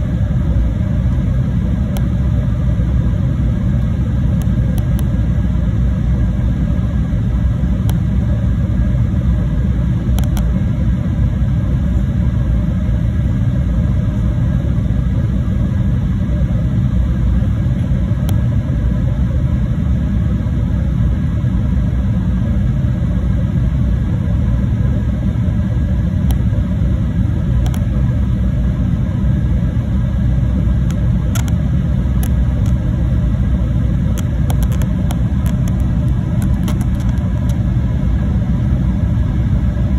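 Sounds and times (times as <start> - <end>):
jet engines rumbling: 0.0 - 39.9
rushing air in cabin: 0.0 - 39.9.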